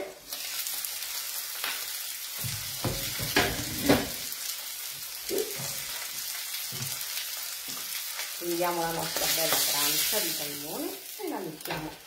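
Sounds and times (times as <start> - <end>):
fish sizzling in a grill pan: 0.0 - 12.0.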